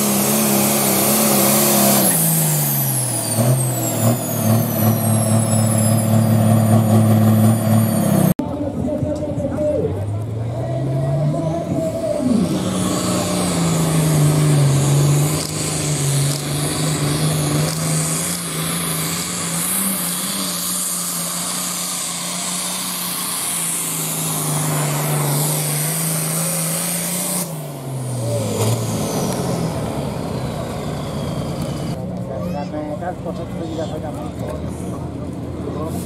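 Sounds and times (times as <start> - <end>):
tractor engine at full throttle: 0.0 - 36.0.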